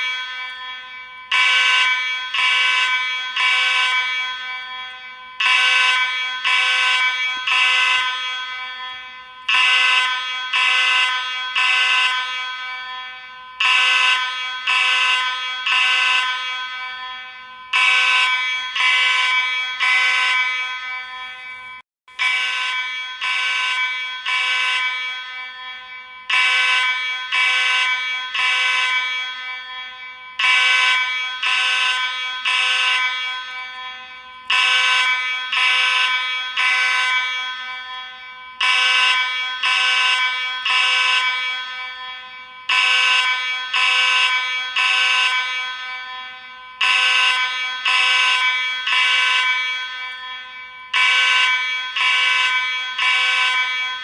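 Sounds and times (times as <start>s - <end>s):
fire alarm horn blasts: 0.0s - 54.0s.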